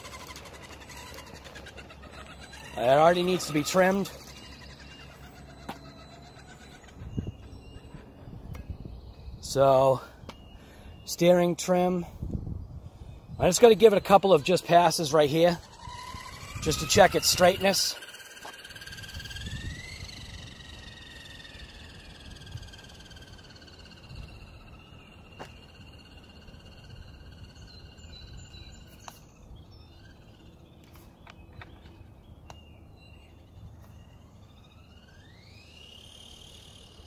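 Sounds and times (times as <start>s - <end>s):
electric motor whine: 0.0s - 9.4s, 13.4s - 32.2s, 33.4s - 37.0s.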